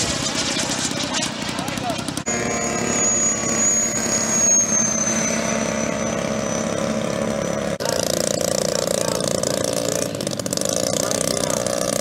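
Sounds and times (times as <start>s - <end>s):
model jet whine: 0.0s - 10.6s
model plane engines buzzing: 0.0s - 12.0s.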